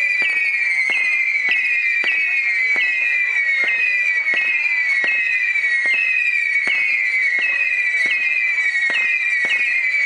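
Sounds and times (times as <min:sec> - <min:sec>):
fireworks popping: 0:00.0 - 0:10.0
fireworks whistling: 0:00.0 - 0:10.0.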